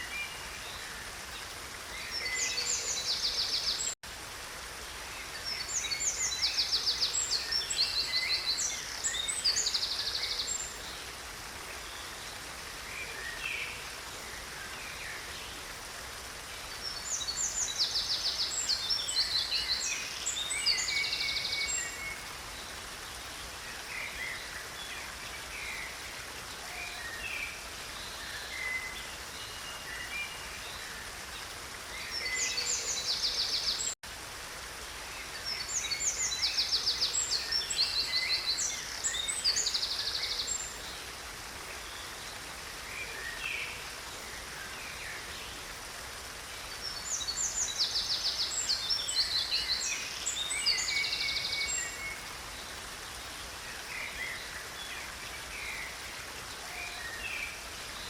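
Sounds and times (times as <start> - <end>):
songbirds trilling and chirping: 0.0 - 34.4, 35.0 - 58.0
stream running: 0.0 - 58.0.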